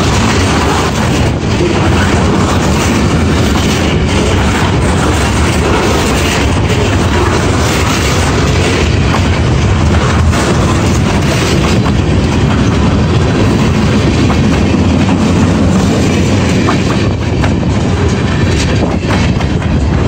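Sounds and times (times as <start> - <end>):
freight train rolling over rails: 0.0 - 20.0.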